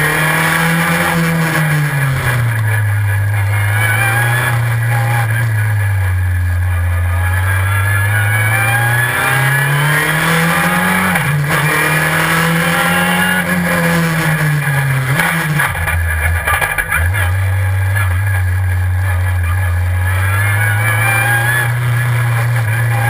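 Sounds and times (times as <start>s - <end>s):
race car engine under load: 0.0s - 23.0s.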